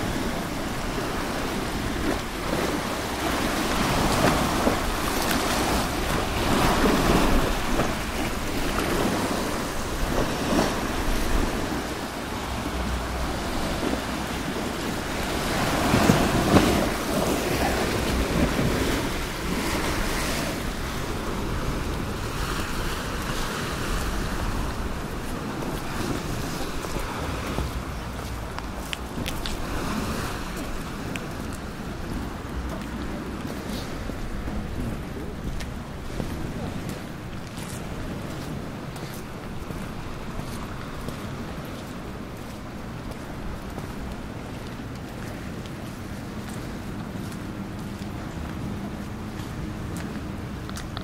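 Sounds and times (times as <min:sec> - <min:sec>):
sea waves breaking on rocks: 0:00.0 - 0:51.0
wind buffeting microphone: 0:00.0 - 0:51.0.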